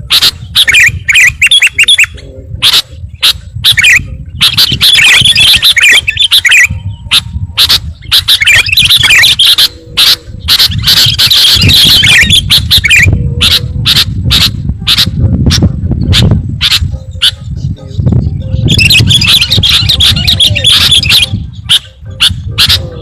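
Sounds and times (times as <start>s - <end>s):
bird chattering and chirping: 0.0s - 23.0s.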